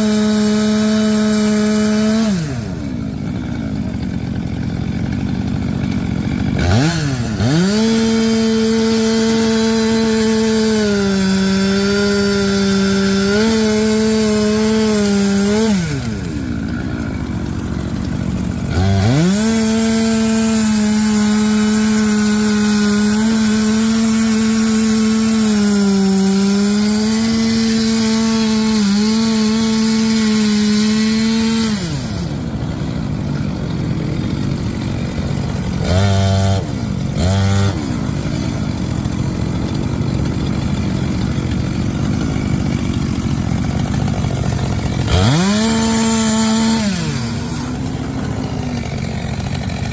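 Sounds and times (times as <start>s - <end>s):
chainsaw revving: 0.0s - 49.9s.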